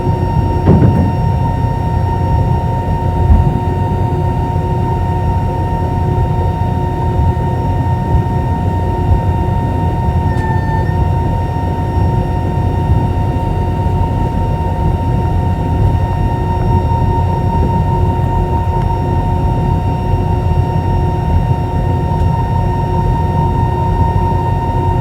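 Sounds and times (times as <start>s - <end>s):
aircraft cabin engine rumble: 0.0s - 25.0s
engine whine: 0.0s - 25.0s.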